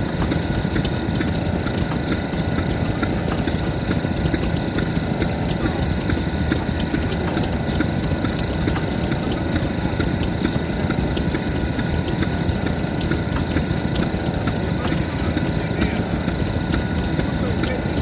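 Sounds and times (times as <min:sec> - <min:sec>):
stationary engine running: 0:00.0 - 0:18.0.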